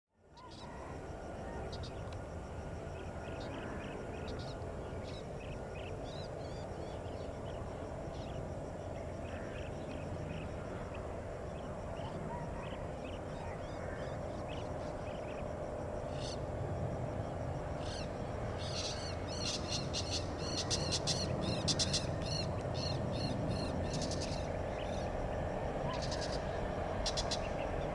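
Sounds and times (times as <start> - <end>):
distant jet engines rumbling: 0.6 - 27.9.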